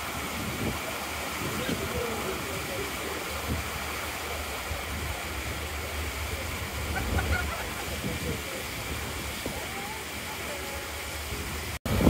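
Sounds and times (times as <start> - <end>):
lake water rushing: 0.0 - 12.0
waves washing: 0.0 - 12.0.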